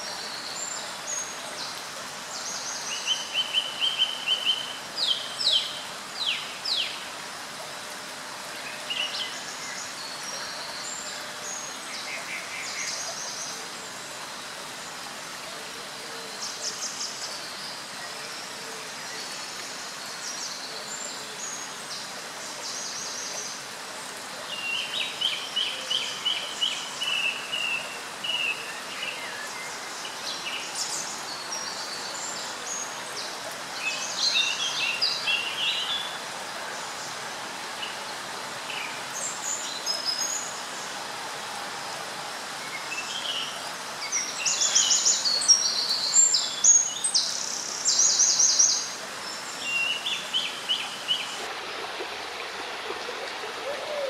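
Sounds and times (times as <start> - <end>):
songbirds singing and calling: 0.0 - 41.0, 42.3 - 54.0
flowing water rushing: 0.0 - 54.0.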